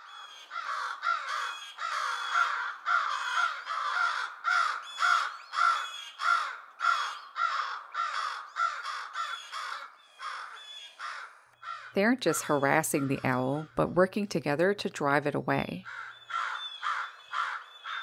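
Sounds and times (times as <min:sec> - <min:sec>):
crows cawing: 0:00.0 - 0:13.4, 0:15.8 - 0:18.0.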